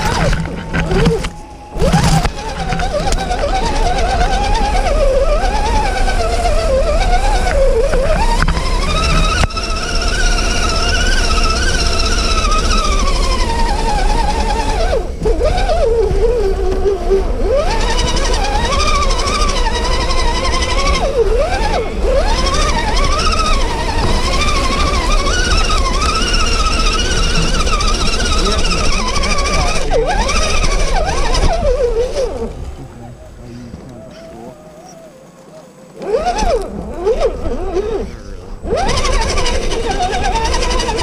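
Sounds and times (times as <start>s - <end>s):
electric motor and gearbox whine: 0.0s - 41.0s.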